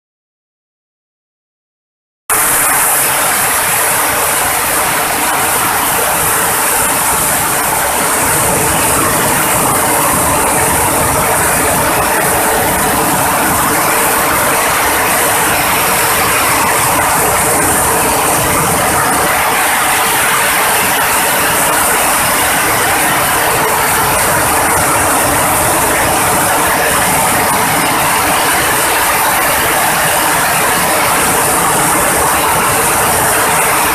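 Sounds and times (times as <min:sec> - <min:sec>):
machine hum: 0:02.3 - 0:33.9.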